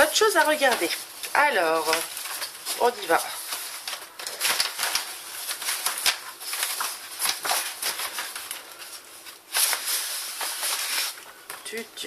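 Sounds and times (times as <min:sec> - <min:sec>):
paper ripping: 0:00.0 - 0:11.3
paper envelope crinkling: 0:00.0 - 0:11.8.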